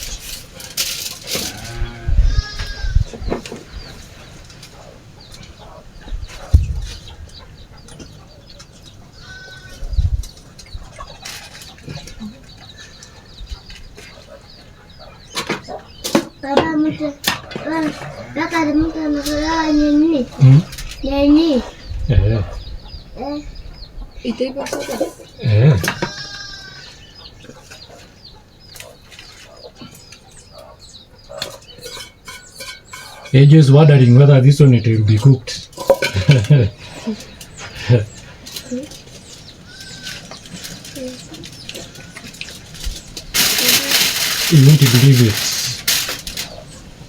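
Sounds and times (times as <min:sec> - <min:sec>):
chickens chirping: 0:00.0 - 0:47.0
farm animals calling: 0:00.0 - 0:47.0.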